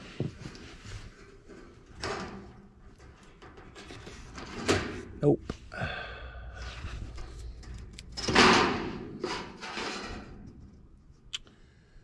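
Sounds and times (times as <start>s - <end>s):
hands scraping and rustling wiring: 0.0s - 5.7s, 6.6s - 11.4s.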